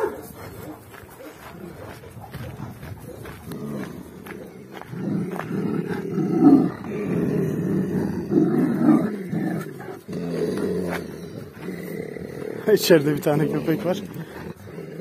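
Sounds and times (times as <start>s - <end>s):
dogs growling: 0.0s - 15.0s.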